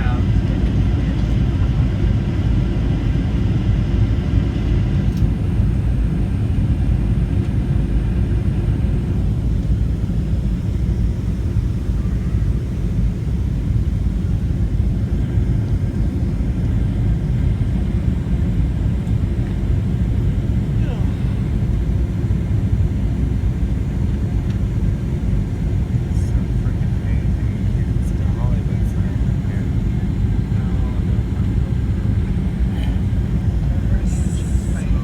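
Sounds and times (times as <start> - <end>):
faint high engine whine: 0.0 - 35.0
jet engine cabin rumble: 0.0 - 35.0.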